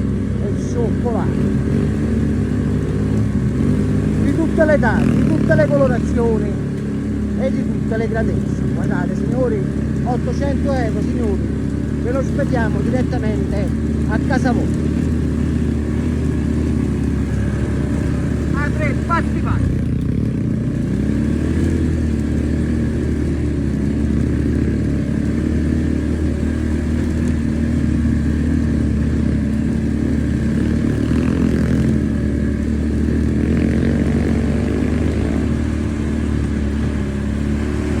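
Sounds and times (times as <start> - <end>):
small motorbike engine running: 0.0 - 38.0.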